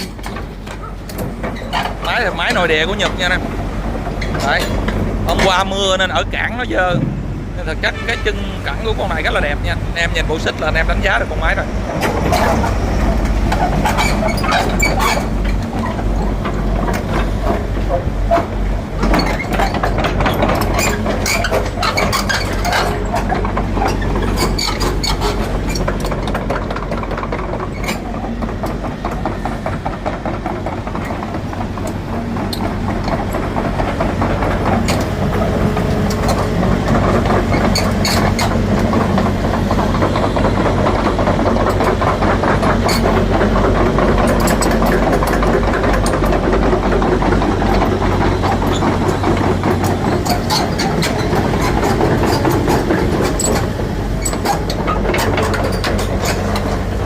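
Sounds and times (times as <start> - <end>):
metallic clanks and clicks: 0.0 - 3.4, 10.2 - 56.9
excavator diesel engine running: 0.0 - 57.0.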